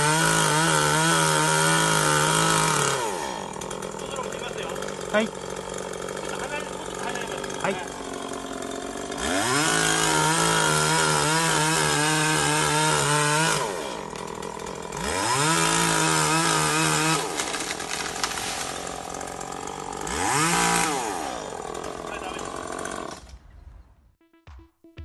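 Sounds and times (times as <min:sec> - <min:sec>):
chainsaw revving and idling: 0:00.0 - 0:23.4.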